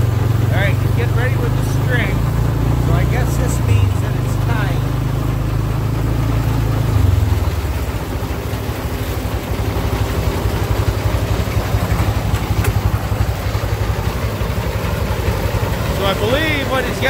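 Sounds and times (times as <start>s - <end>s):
baler pulsing: 0.0s - 17.0s
tractor engine running: 0.0s - 17.0s.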